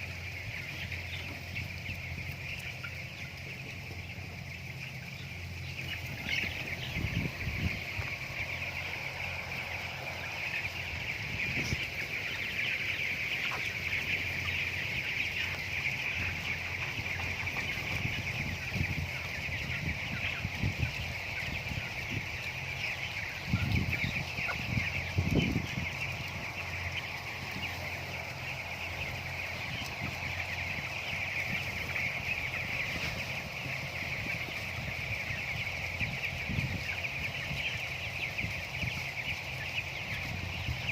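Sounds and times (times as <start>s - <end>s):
chickens peeping: 0.0s - 40.9s.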